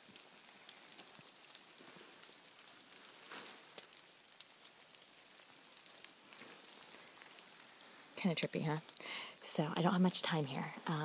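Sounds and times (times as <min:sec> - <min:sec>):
small ticks and clicks: 0:00.0 - 0:09.1
faint steady hiss: 0:00.0 - 0:11.0.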